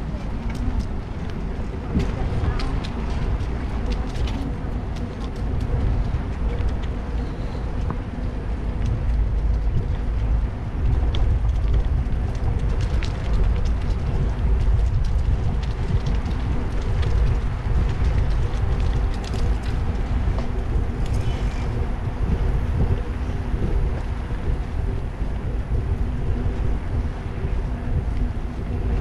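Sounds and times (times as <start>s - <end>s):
bicycle tyres rolling on pavers: 0.0s - 29.0s
wind buffeting microphone: 0.0s - 29.0s.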